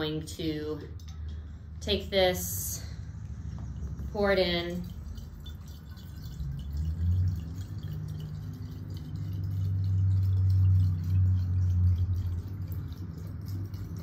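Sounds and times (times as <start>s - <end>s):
water trickling through funnel: 0.0s - 14.0s.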